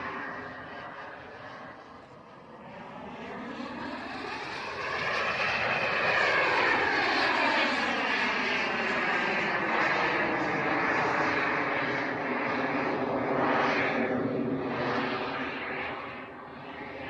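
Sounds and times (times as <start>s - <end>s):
model jet turbine passing overhead: 0.0s - 17.0s.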